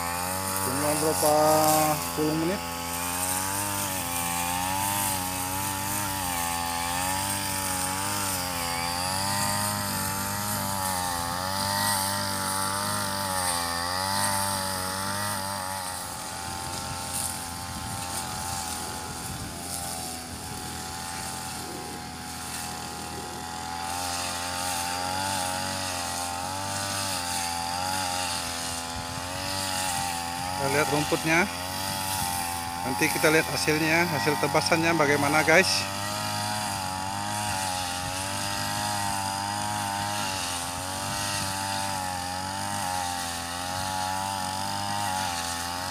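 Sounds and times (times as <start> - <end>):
brush cutter engine cutting grass: 0.0 - 45.9.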